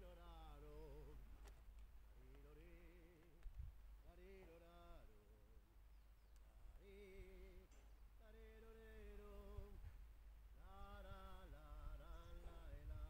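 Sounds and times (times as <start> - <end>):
faint wordless singing: 0.0 - 5.7, 6.3 - 13.0.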